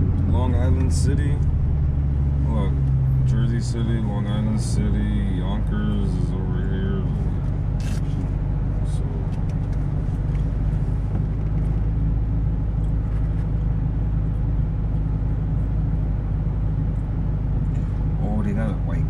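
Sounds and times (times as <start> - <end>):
car engine and tyres droning: 0.0 - 19.0.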